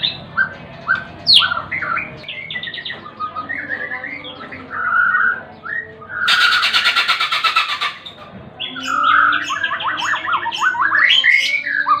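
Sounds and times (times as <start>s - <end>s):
bird singing harsh rattle and whistles: 0.0s - 12.0s.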